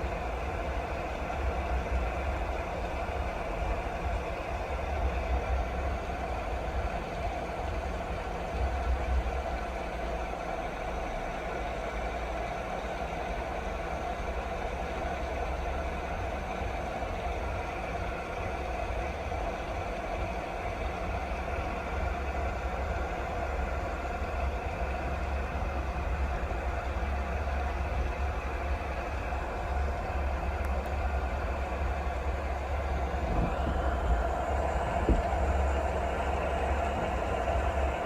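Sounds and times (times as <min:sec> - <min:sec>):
constant low rumble: 0:00.0 - 0:38.0.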